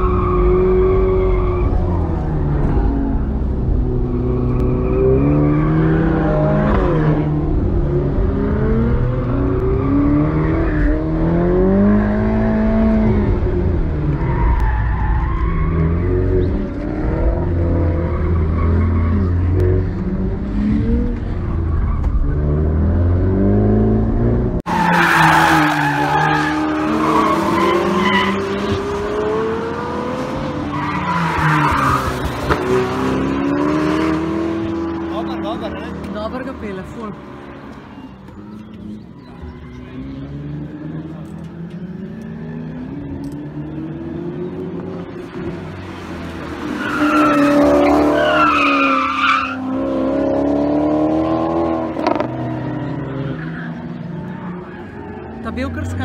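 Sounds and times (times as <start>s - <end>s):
sports car engines revving: 0.0s - 56.0s.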